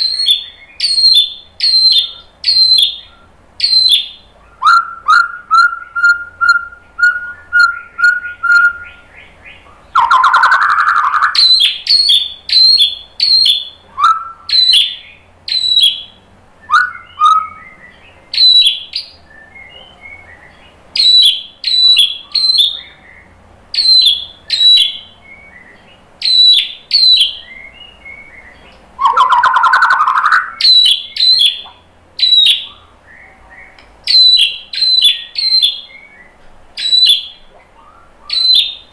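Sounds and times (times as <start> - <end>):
bird whistling song: 0.0 - 38.9.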